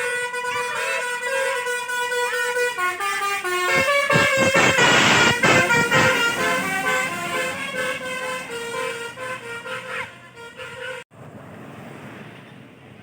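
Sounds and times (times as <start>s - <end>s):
multi-tone bus horn tune: 0.0s - 11.1s.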